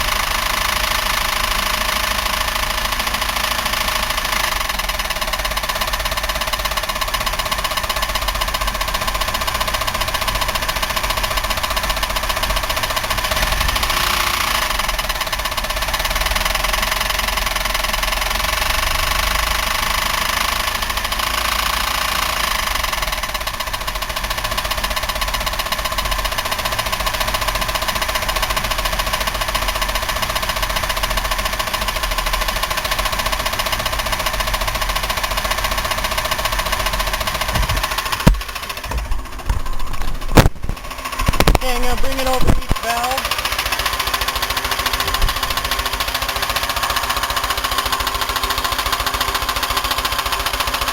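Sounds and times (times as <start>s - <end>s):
engine knocking heavily: 0.0s - 50.9s.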